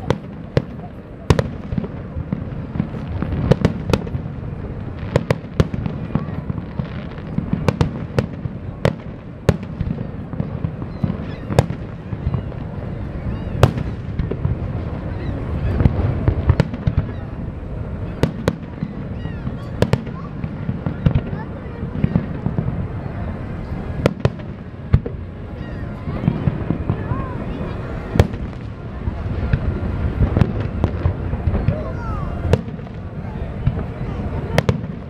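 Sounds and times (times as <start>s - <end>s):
fireworks bursting with sharp bangs: 0.0s - 35.0s
steady low rumble: 0.0s - 35.0s.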